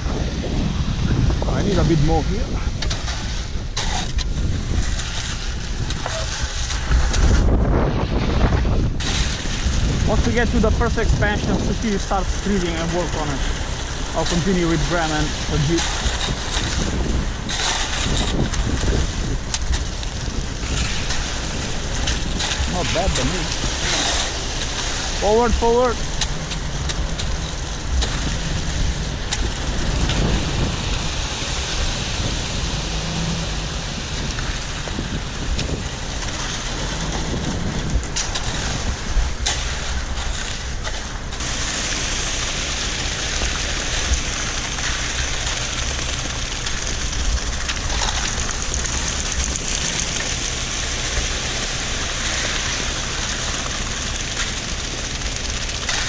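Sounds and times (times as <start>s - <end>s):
wind buffeting microphone: 0.0s - 55.8s
truck engine drone: 0.0s - 56.0s.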